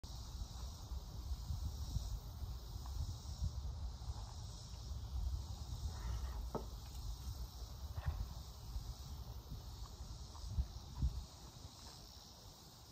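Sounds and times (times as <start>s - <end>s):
insect chorus buzzing: 0.0s - 12.9s.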